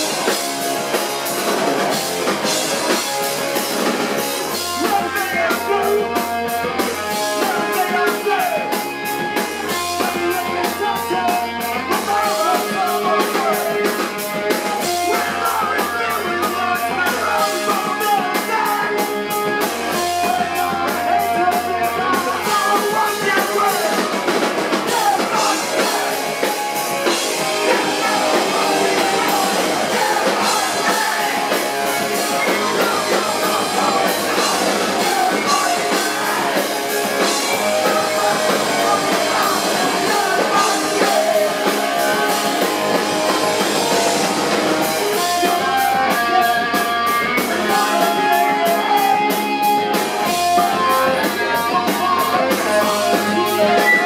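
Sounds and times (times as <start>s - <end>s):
drum kit fast beat: 0.0s - 54.0s
electric guitar: 0.0s - 54.0s
vocalist singing into microphone: 4.5s - 54.0s.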